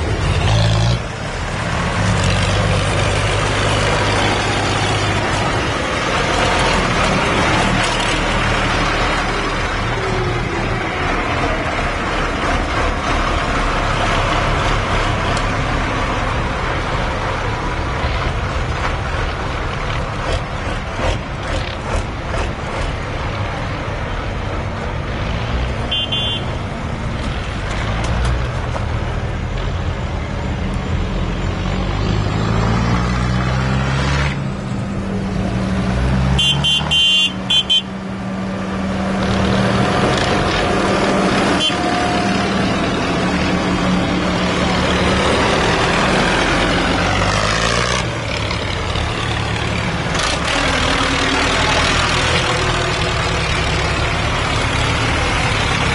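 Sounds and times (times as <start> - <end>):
tractor engines running: 0.0 - 55.9.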